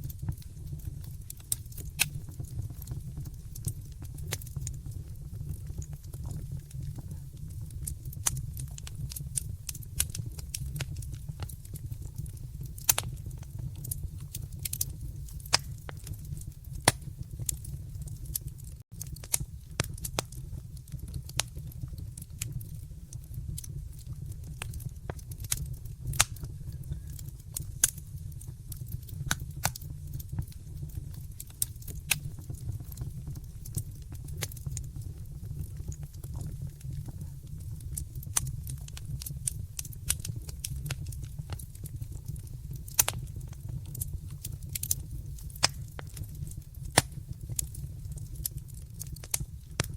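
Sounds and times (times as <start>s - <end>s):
low rumble of flames: 0.0s - 49.9s
wood fire crackling and popping: 0.0s - 49.9s.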